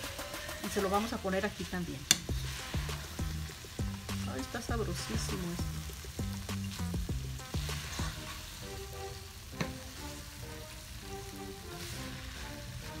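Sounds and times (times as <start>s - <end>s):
background music: 0.0s - 13.0s
filling sizzling in a pot: 0.0s - 13.0s.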